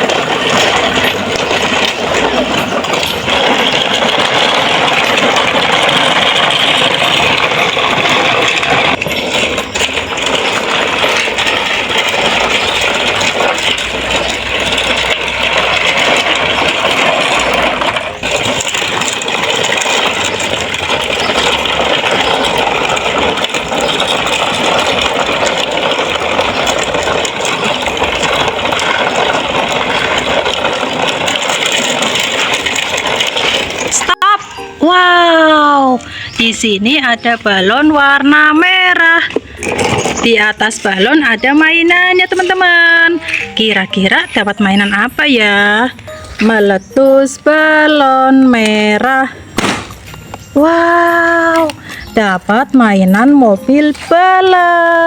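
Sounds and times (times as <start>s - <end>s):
toy truck rattling: 0.0s - 55.0s.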